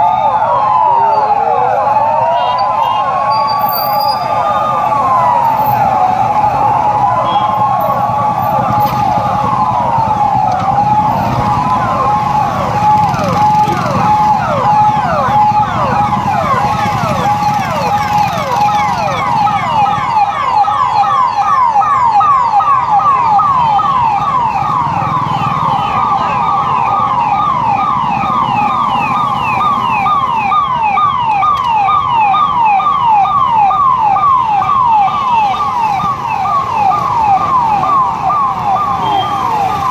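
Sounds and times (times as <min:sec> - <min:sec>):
police siren wailing: 0:00.0 - 0:39.9
siren yelps: 0:00.0 - 0:39.9
steady siren tone: 0:00.0 - 0:39.9.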